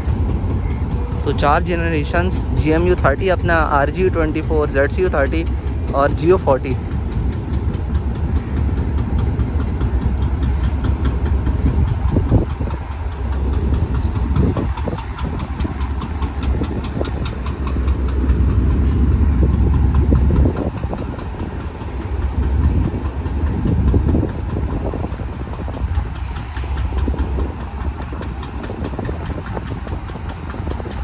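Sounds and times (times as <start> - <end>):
diesel locomotive rumbling: 0.0 - 31.0.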